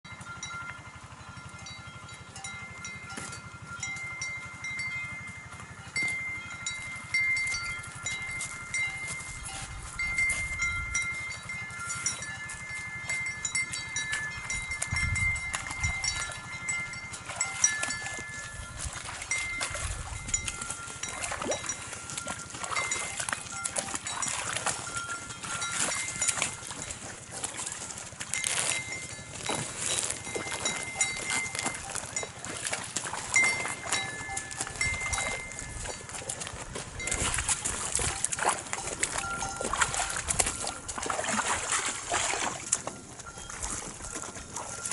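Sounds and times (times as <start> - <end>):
high ringing notes: 0.1 - 36.4, 37.0 - 41.7, 42.4 - 44.9
hooves splashing in water: 0.1 - 44.9.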